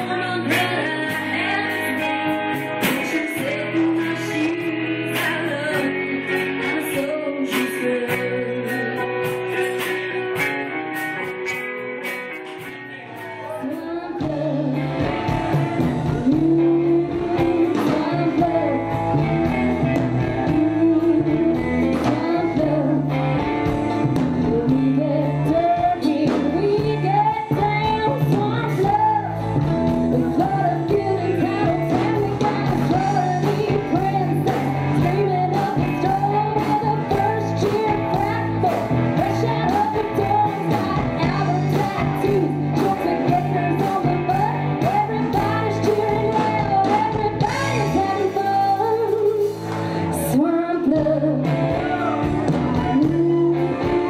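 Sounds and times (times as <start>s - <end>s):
acoustic and electric guitar: 0.0s - 54.0s
woman singing lead: 0.0s - 54.0s.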